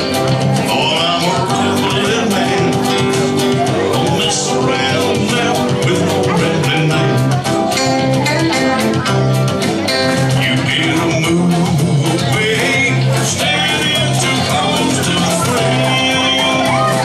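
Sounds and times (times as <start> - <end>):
electric guitar: 0.0 - 17.0
man singing: 0.0 - 17.0
steady drum beat: 0.0 - 17.0.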